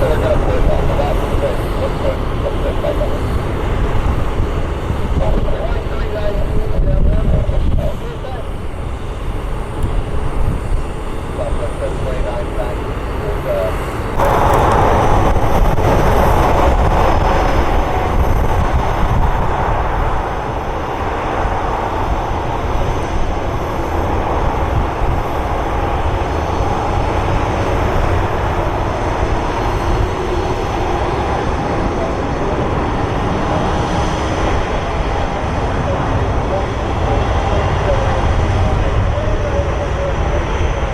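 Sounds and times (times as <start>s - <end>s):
jet engines rushing: 0.0s - 40.9s.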